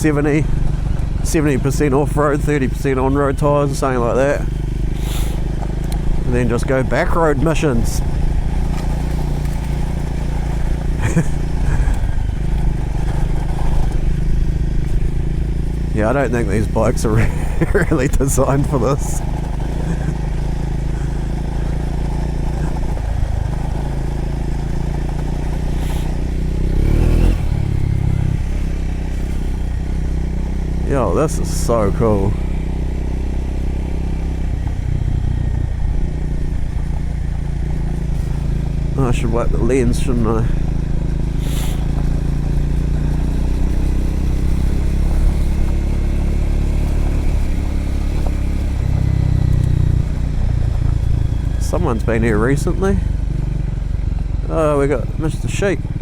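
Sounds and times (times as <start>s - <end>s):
gravel clattering: 0.0s - 53.1s
motorcycle engine revving: 0.0s - 56.0s
tyre and road noise: 0.0s - 56.0s.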